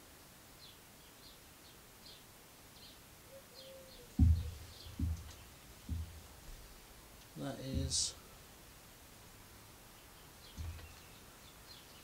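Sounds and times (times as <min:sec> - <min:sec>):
small birds chirping: 0:00.6 - 0:08.6, 0:09.4 - 0:12.0.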